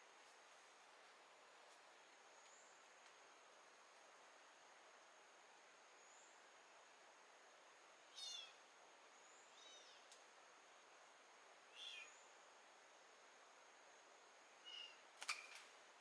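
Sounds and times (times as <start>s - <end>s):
background hiss: 0.0s - 16.0s
faint high whine: 0.0s - 16.0s.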